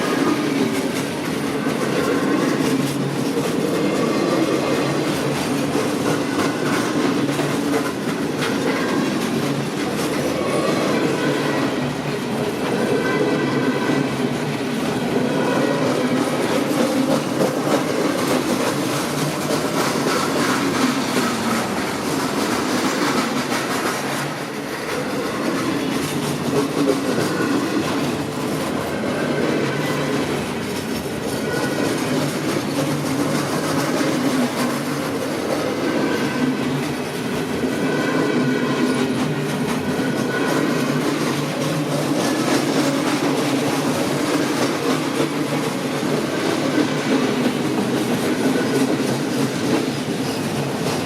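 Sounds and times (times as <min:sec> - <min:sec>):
train cars rolling past: 0:00.0 - 0:51.0
wheels clicking over rail joints: 0:00.1 - 0:13.8, 0:14.4 - 0:51.0.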